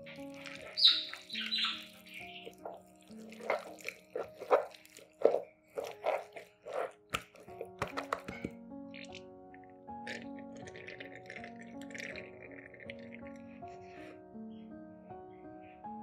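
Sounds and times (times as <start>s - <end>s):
soft background music: 0.0s - 16.0s
wet clicks of food preparation: 0.1s - 13.4s.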